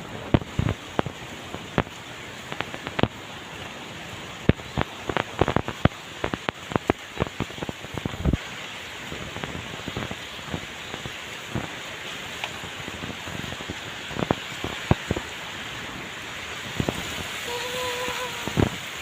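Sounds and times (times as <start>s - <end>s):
loud raindrops striking nearby: 0.0s - 19.0s
steady rain: 0.0s - 19.0s.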